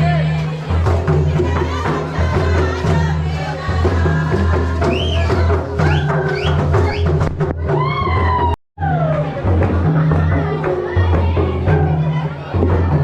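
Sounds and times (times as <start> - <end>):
folk dance music with drums: 0.0 - 13.0.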